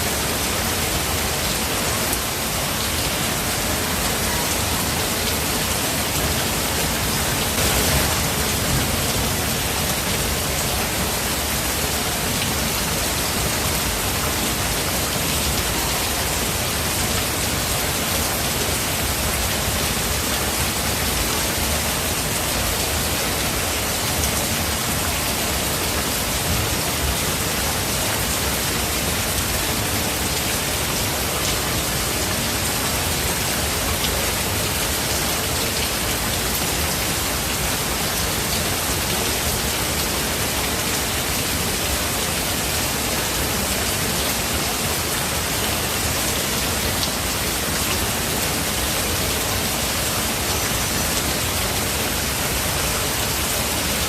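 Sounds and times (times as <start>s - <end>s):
heavy rain in a forest: 0.0s - 54.0s.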